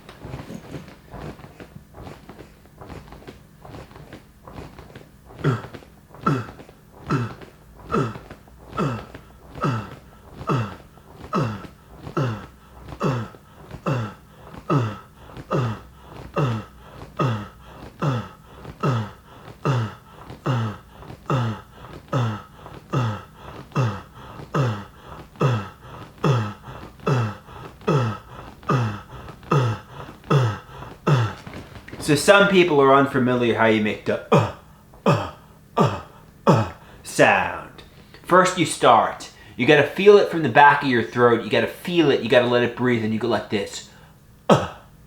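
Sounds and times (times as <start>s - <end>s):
man grunting uh: 5.4s - 43.8s, 44.5s - 44.9s.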